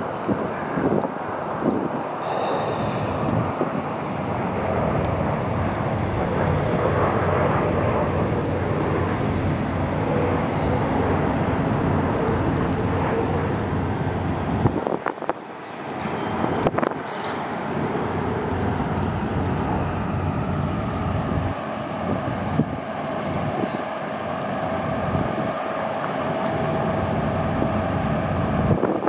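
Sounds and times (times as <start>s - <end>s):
jet airliner rumble passing: 0.0s - 29.0s.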